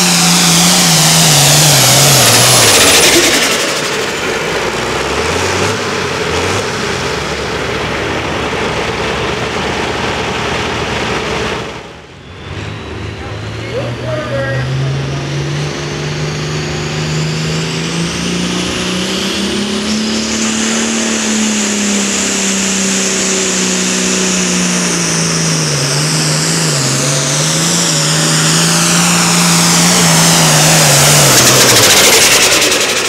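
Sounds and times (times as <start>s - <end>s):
high whine: 0.0s - 33.0s
tractor engine running flat out: 0.0s - 33.0s.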